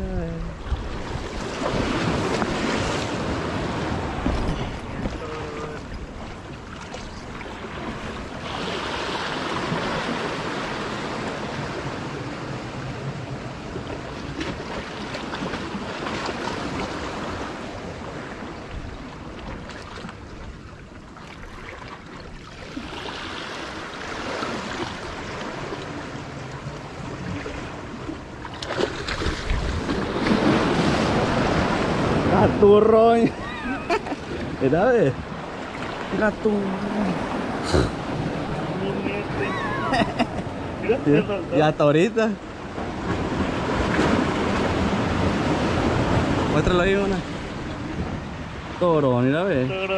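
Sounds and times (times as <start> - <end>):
waves splashing: 0.0 - 49.9
sea waves washing against rocks: 0.4 - 49.7.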